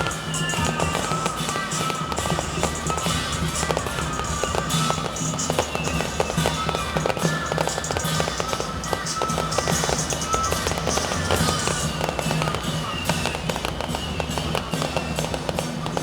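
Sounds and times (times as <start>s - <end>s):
firecrackers crackling rapidly: 0.0s - 16.0s
music with held tones: 0.0s - 16.0s.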